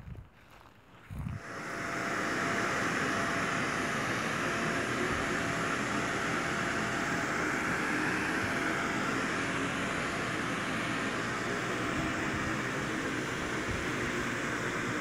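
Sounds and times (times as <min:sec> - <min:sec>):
faint steady whine: 0:00.0 - 0:15.0
electric blower rushing air: 0:01.2 - 0:15.0.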